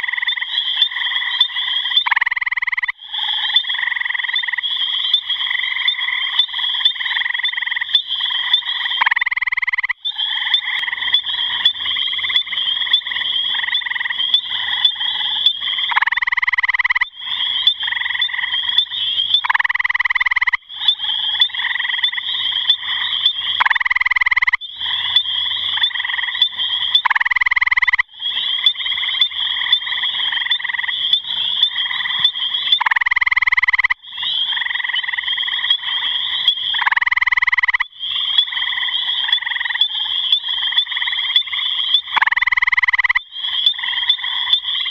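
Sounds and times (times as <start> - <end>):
frog chorus trilling: 0.0 - 44.9.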